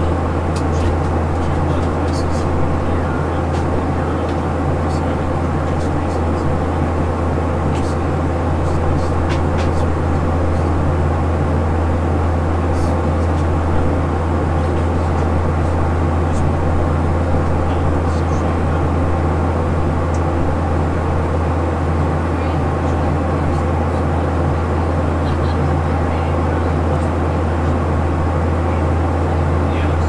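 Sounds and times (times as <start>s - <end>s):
jet engine drone: 0.0s - 30.0s
low hum: 0.0s - 30.0s.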